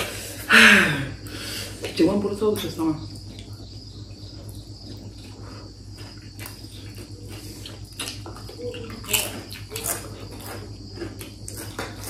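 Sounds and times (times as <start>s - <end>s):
steady high-pitched hum: 0.0s - 12.0s.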